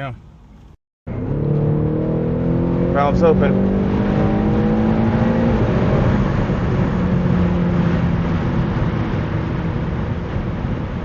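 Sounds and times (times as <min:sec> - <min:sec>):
car engine droning from cabin: 0:00.0 - 0:11.0.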